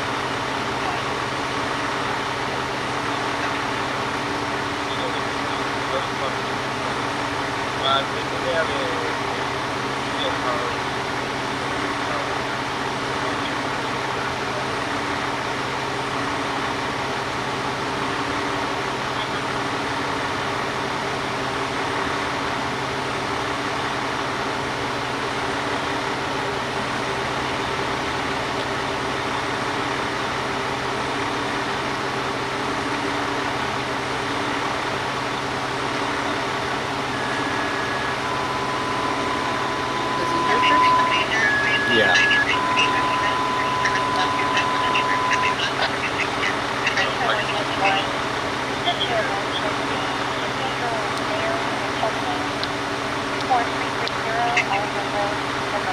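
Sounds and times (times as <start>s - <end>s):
vehicle engine hum: 0.0s - 55.9s.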